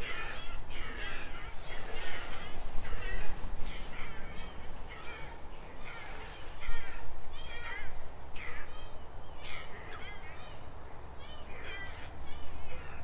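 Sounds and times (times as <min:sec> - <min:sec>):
crows cawing: 0:00.0 - 0:10.5.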